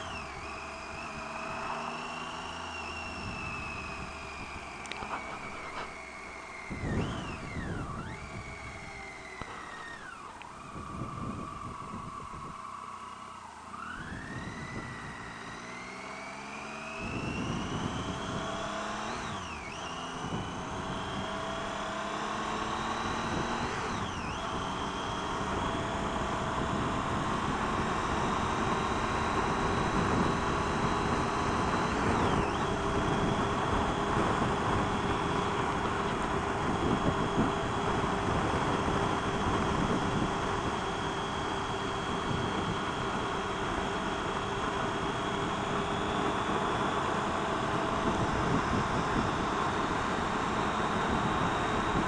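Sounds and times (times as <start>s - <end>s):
motorcycle engine accelerating: 0.0s - 52.0s
wind noise: 3.0s - 6.0s, 6.6s - 12.6s, 14.0s - 15.7s, 17.0s - 52.0s.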